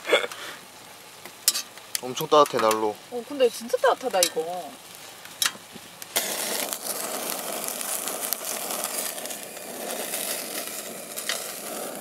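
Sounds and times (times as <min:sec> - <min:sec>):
beef sizzling in hot oil: 0:00.4 - 0:12.0.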